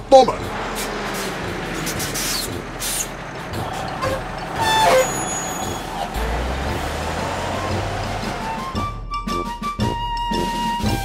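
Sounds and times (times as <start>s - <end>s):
rising winch whine: 0.0s - 8.9s
truck engine running: 0.0s - 9.0s.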